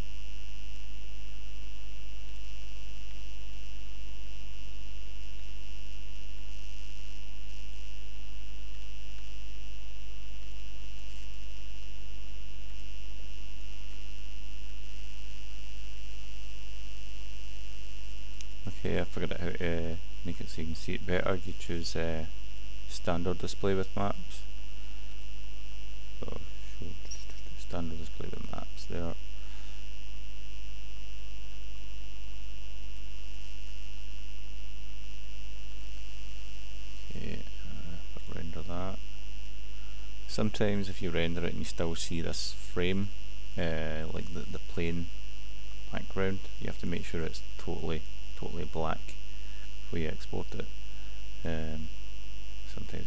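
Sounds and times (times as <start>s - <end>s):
high-pitched whine: 0.0s - 53.0s
steady electrical hum: 0.0s - 53.0s.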